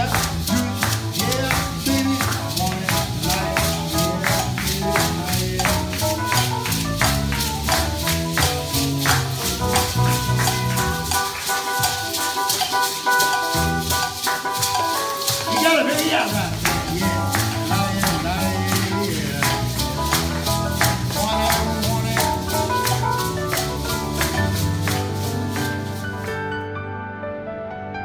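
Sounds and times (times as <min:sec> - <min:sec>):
maracas and shakers shaken: 0:00.0 - 0:26.5
music: 0:00.0 - 0:28.0.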